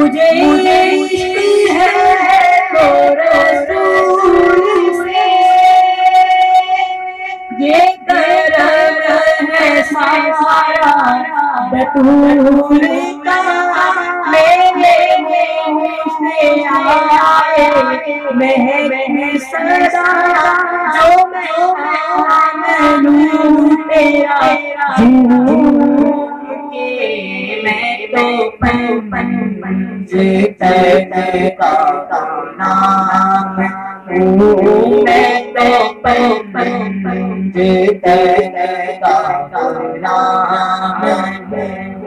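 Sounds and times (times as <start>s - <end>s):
boy singing devotional song: 0.0s - 42.0s.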